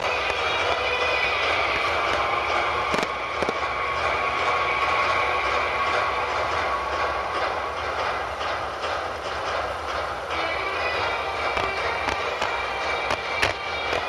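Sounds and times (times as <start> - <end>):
fireworks crackling: 0.0 - 7.2, 9.7 - 14.0.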